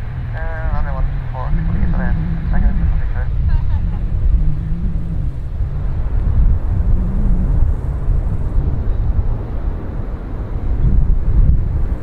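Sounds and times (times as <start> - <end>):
airplane low rumble: 0.0 - 12.0.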